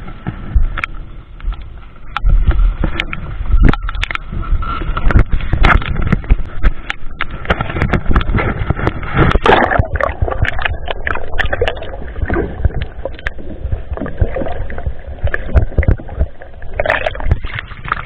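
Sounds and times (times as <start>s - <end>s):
low rumble: 0.0s - 18.0s
water sloshing and splashing: 0.0s - 18.0s.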